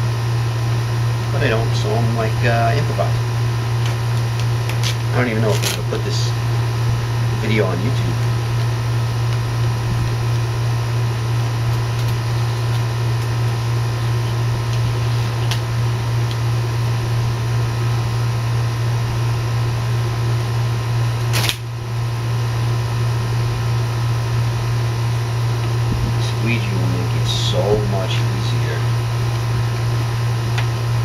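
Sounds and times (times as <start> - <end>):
faint high whine: 0.0 - 31.0
low mechanical hum: 0.0 - 31.0.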